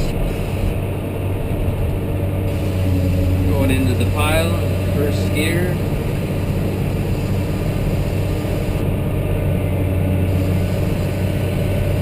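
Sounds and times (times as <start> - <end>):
wheel loader diesel engine running: 0.0 - 12.0.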